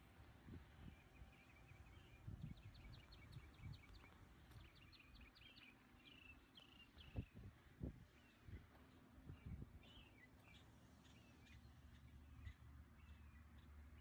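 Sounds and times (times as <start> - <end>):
small birds chirping: 0.5 - 14.0.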